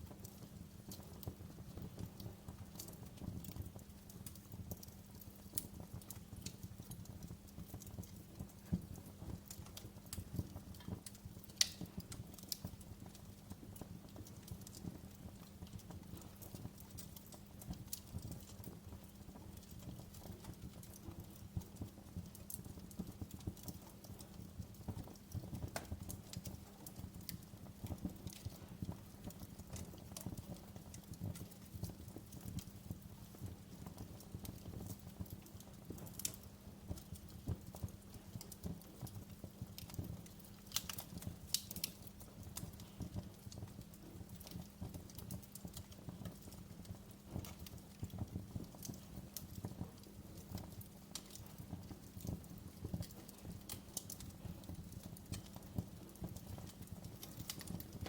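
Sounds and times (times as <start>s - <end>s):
low fire rumble: 0.0s - 58.0s
wood fire crackling: 0.0s - 58.0s.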